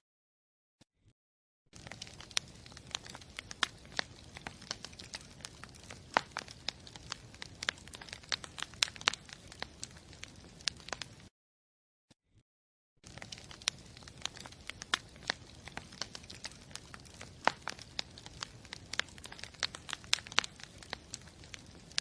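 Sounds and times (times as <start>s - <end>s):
bonfire crackling and popping: 1.8s - 11.3s, 13.0s - 22.0s.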